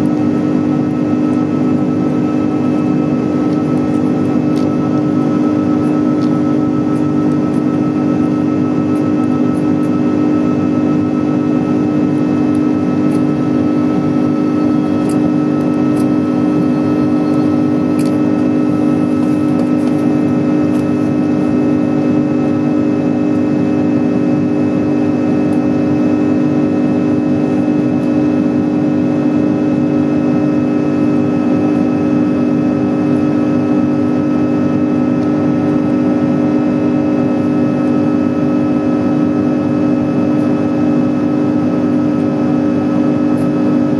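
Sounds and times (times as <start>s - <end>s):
jet engines droning in cabin: 0.0s - 43.9s.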